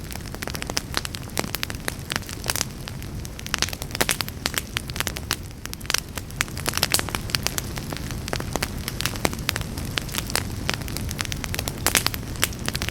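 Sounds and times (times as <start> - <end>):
low rumble of flames: 0.0 - 12.9
wood fire crackling and popping: 0.0 - 12.9.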